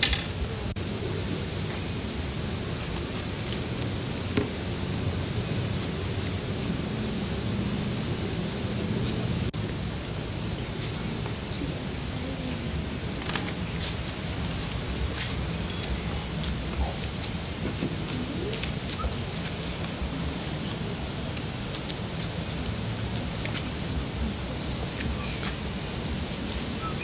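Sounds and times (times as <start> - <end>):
cricket chirping trill: 0.0 - 27.0.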